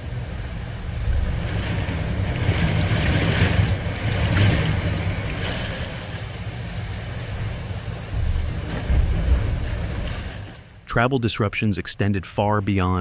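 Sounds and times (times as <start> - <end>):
strong wind rushing: 0.0 - 10.8
wind buffeting microphone: 0.0 - 10.8.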